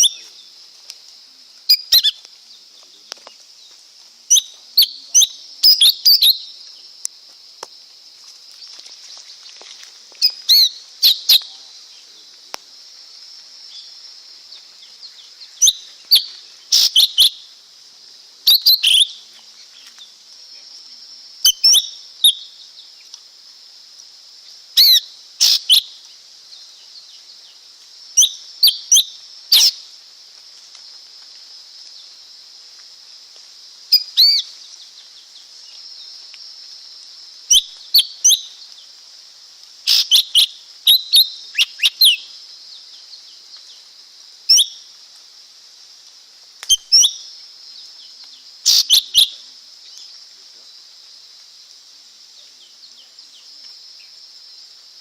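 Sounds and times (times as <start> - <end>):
high-pitched background hiss: 0.0 - 55.0.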